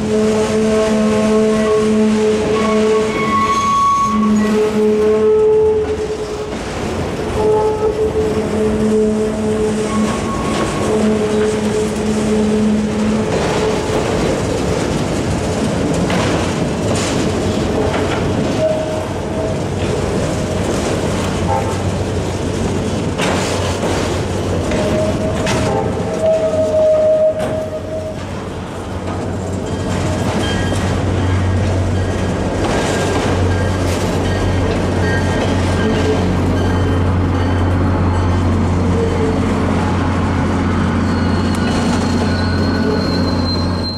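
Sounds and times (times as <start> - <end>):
train clanks: 0.0 - 43.9
train wheels rumbling on rails: 0.0 - 43.9.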